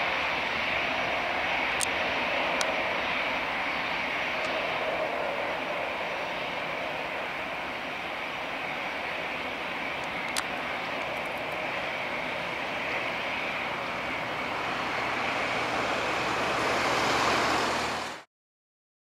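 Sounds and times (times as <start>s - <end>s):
jet engine roar with high whine: 0.0s - 18.3s.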